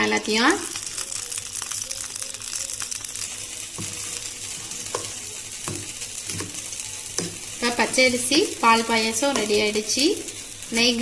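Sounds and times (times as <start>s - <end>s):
hot ghee sizzling: 0.0s - 11.0s.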